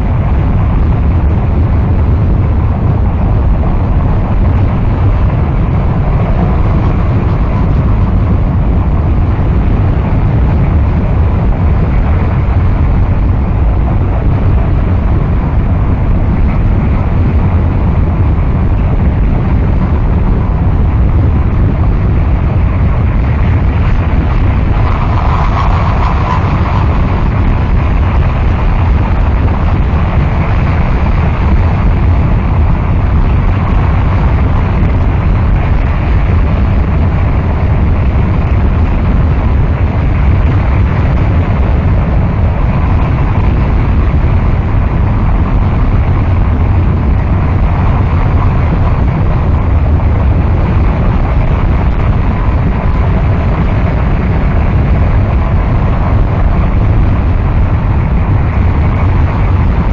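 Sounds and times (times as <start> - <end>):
rumbling static noise music: 0.0 - 59.9.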